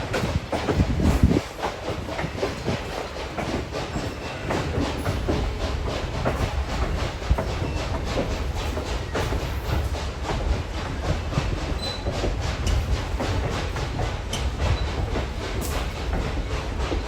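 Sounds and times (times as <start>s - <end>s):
train rumbling along track: 0.0s - 17.0s
train wheels clicking over rails: 0.0s - 17.0s.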